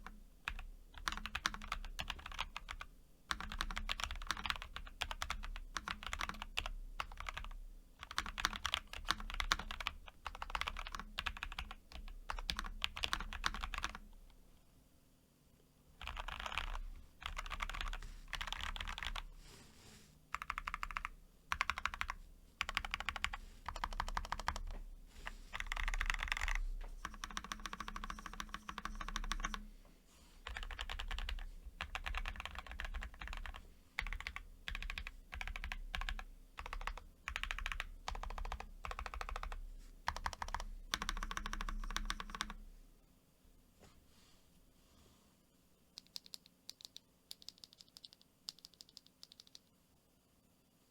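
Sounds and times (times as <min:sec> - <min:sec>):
mechanical keyboard typing: 0:00.0 - 0:14.1, 0:16.0 - 0:19.3, 0:20.3 - 0:24.8, 0:25.5 - 0:29.7, 0:30.4 - 0:42.6, 0:46.0 - 0:49.7.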